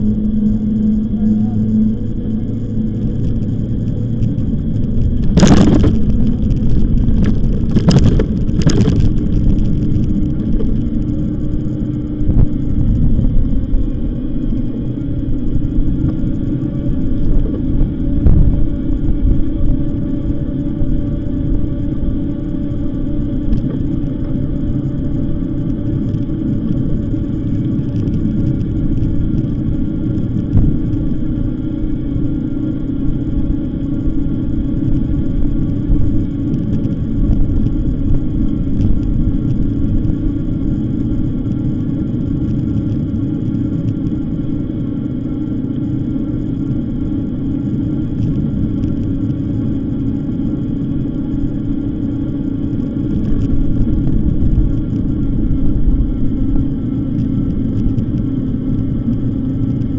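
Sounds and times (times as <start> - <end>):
faint ticks and rattles: 0.0 - 59.9
tyre and road noise: 0.0 - 59.9
wind buffeting microphone: 0.0 - 59.9.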